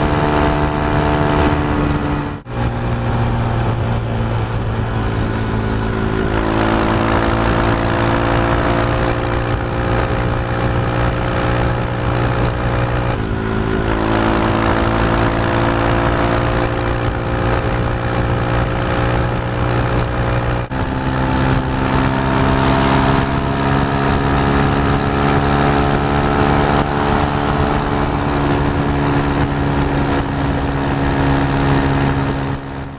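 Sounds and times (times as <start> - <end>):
motorcycle engine running hard: 0.0 - 32.9
wind rush: 0.0 - 32.9.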